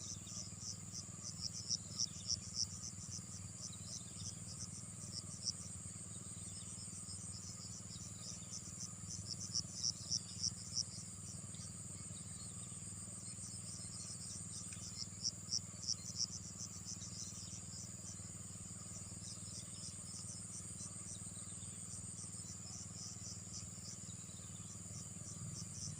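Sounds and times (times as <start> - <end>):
high pulsing insect chirps: 0.0 - 25.9
insects droning: 0.0 - 25.9.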